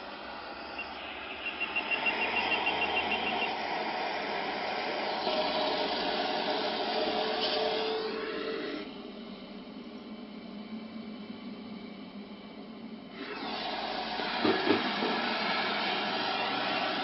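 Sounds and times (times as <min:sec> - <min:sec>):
car cabin road and engine noise: 0:00.0 - 0:17.0
faint steady whine: 0:00.0 - 0:17.0.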